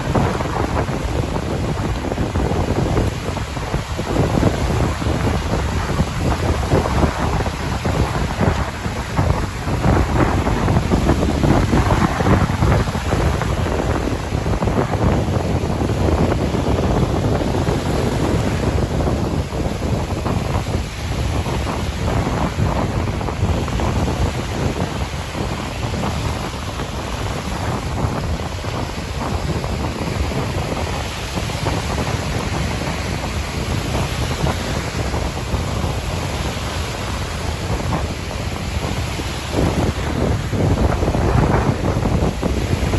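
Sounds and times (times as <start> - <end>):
surf washing: 0.0 - 42.9
wind buffeting microphone: 0.0 - 42.9.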